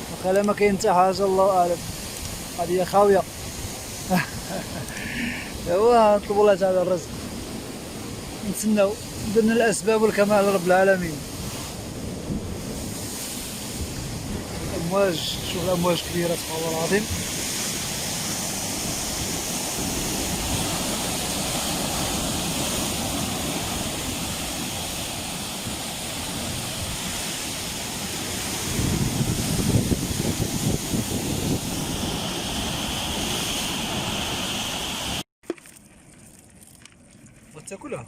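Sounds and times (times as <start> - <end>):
ocean waves breaking: 0.0 - 35.2.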